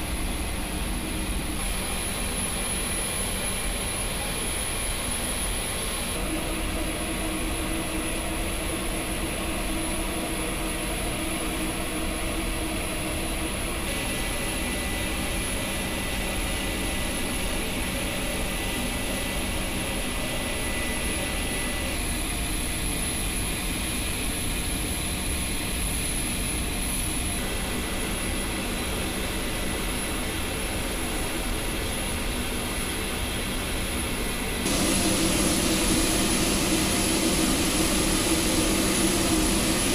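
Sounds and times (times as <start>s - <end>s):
high turbine whine: 0.0s - 39.9s
turboprop engines droning: 0.0s - 39.9s.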